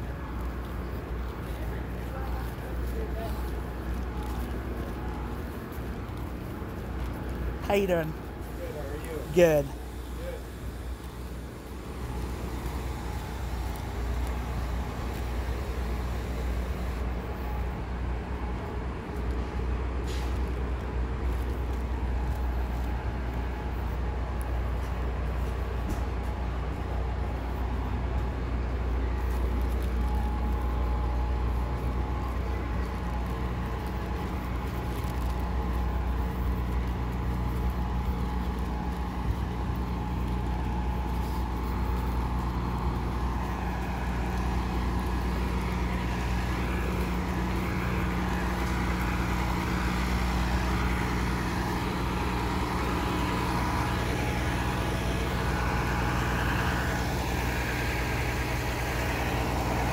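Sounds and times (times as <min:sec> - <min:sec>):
diesel engines idling: 0:00.0 - 0:59.9
traffic noise: 0:00.0 - 0:59.9.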